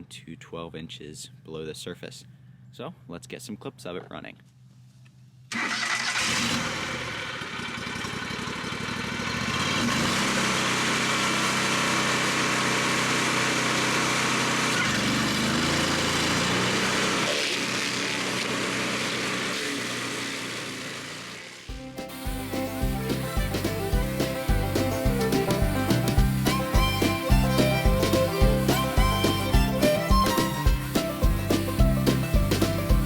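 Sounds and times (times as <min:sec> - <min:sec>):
engine running: 0:05.5 - 0:33.0
cutter wheel grinding stump: 0:05.6 - 0:33.0.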